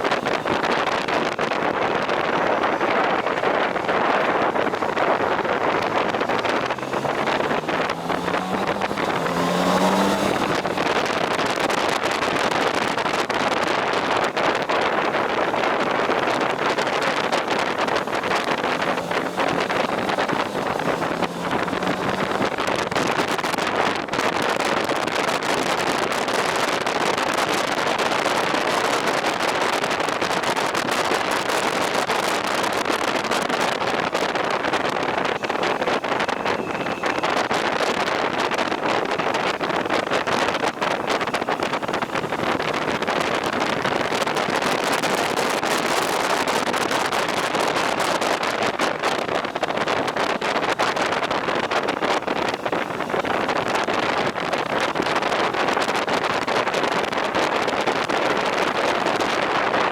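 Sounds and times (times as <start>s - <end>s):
motorcycle road noise: 0.0s - 59.9s
wind rush on microphone: 0.0s - 59.9s.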